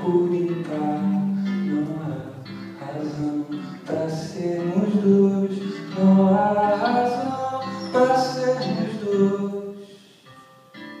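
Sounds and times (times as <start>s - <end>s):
man singing: 0.0s - 10.0s
acoustic guitar: 0.0s - 11.0s.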